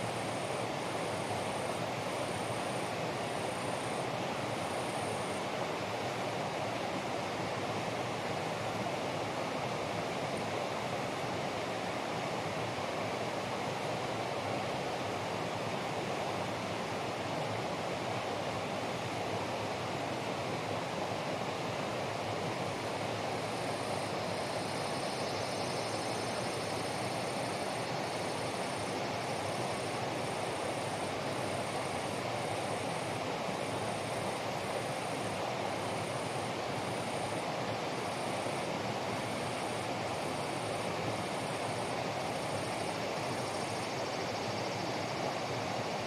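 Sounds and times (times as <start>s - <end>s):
rushing water: 0.0s - 25.2s, 26.0s - 46.0s.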